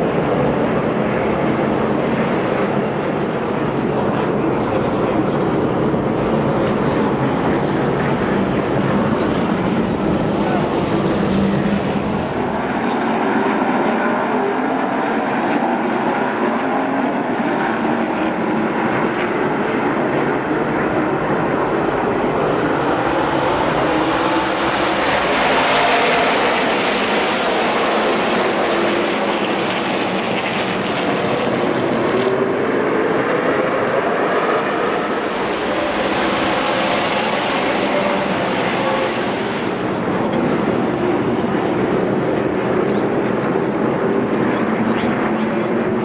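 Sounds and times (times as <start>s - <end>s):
race truck engines: 0.0s - 46.0s.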